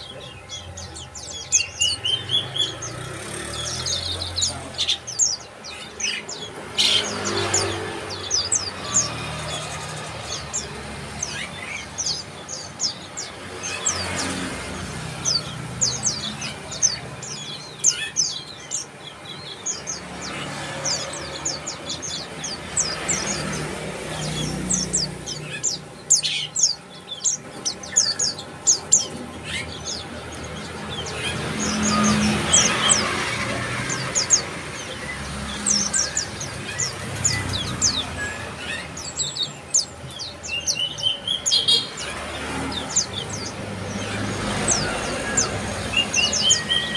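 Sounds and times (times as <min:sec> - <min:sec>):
birds chirping in rapid runs: 0:00.0 - 0:46.9.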